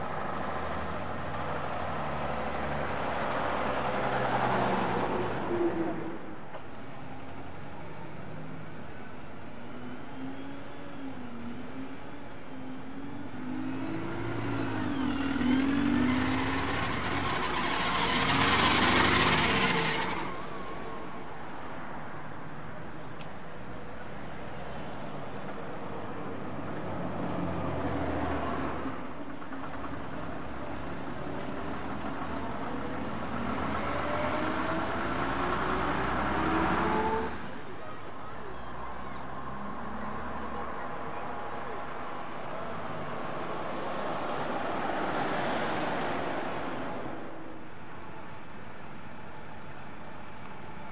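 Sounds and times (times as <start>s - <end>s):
bus engines pulling away: 0.0s - 6.5s, 7.2s - 50.9s.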